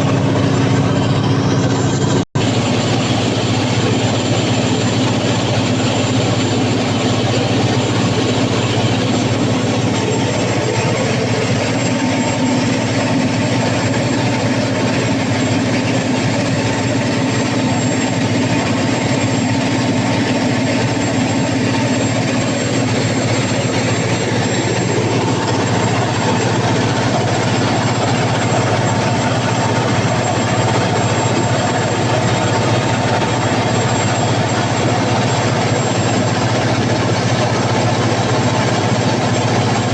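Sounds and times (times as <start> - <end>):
diesel generator engine droning: 0.0 - 39.9.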